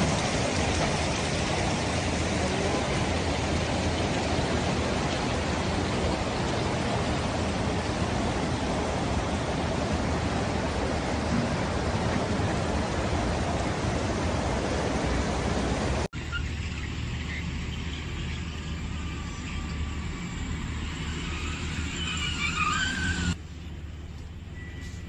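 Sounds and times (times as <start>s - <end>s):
steady rushing noise: 0.0s - 22.1s
engines in slow traffic: 0.0s - 25.0s.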